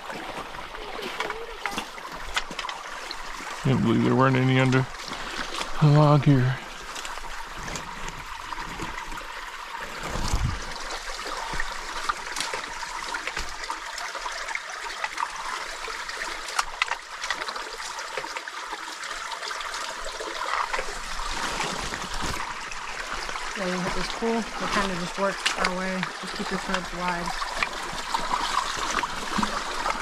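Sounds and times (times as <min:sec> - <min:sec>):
stream trickling over rocks: 0:00.0 - 0:30.0.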